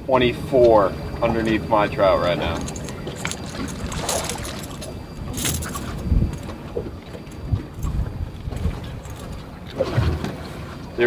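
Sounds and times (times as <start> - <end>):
waves slapping boat hull: 0.3 - 11.0.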